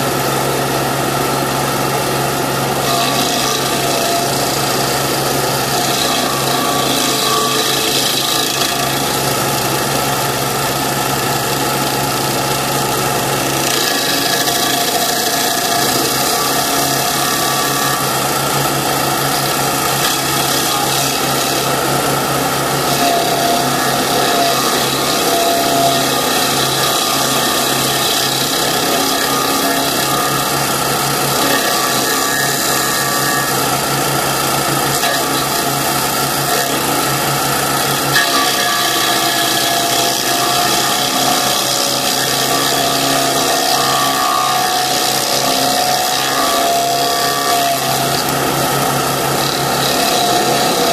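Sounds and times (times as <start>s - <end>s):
cutting wheel grinding stump: 0.0s - 50.9s.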